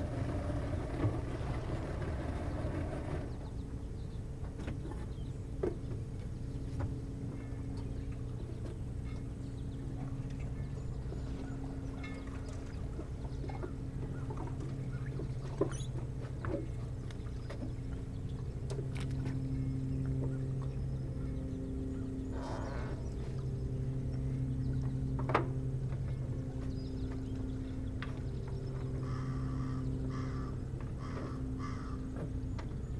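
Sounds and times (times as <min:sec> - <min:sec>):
distant motorboat engine hum: 0:00.0 - 0:32.9.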